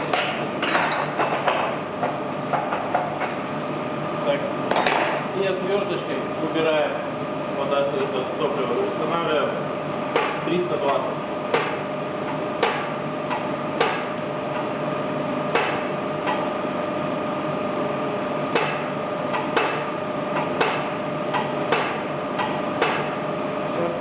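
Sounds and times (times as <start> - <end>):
steady workshop hum: 0.0 - 24.0.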